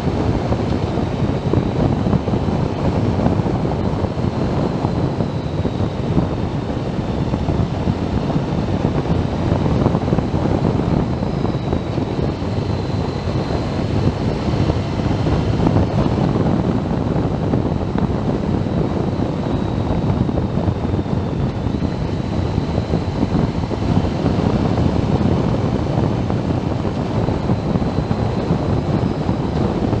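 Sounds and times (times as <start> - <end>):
faint high whine: 0.0 - 30.0
motorcycle engine: 0.0 - 30.0
road noise: 0.0 - 30.0
wind buffeting microphone: 0.0 - 30.0.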